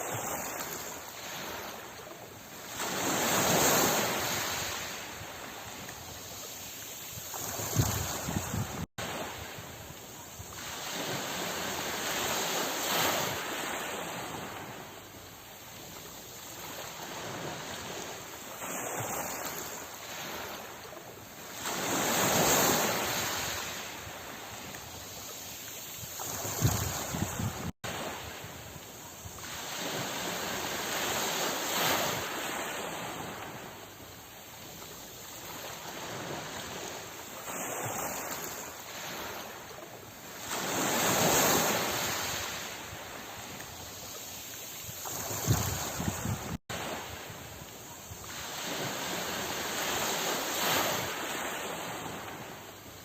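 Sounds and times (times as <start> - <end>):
sea waves washing on shore: 0.0 - 53.0.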